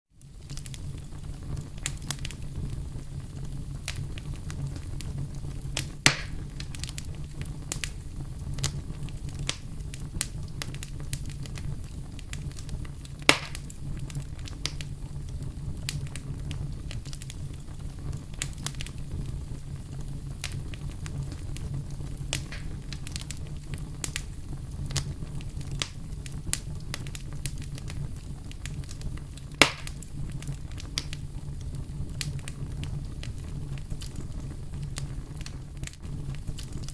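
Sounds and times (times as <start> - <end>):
fire crackling: 0.1 - 36.9
low rumble of flames: 0.1 - 36.9
loud fire pops: 0.2 - 36.9.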